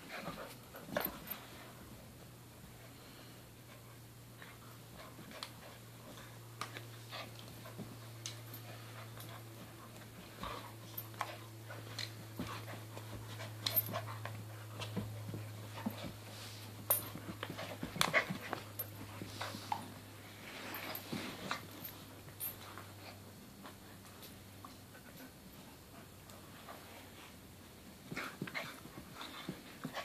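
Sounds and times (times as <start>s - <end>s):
dogs scuffling and mouthing: 0.0s - 30.0s
steady low hum: 0.0s - 30.0s.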